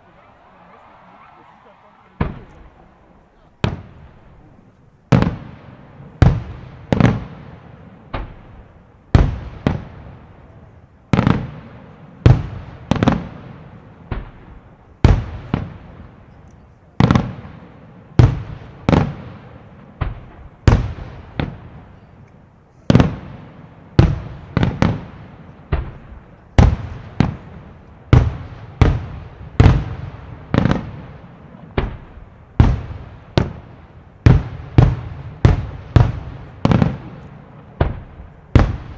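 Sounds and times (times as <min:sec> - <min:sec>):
fireworks bursting with loud bangs: 0:00.0 - 0:38.9.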